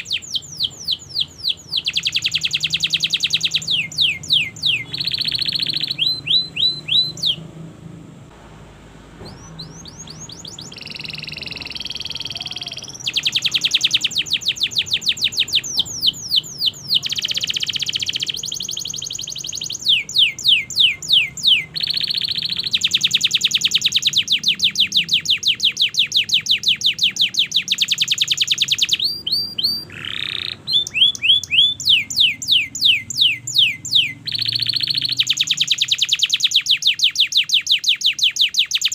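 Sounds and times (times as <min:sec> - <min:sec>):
canary singing trills: 0:00.0 - 0:07.6, 0:09.2 - 0:38.9.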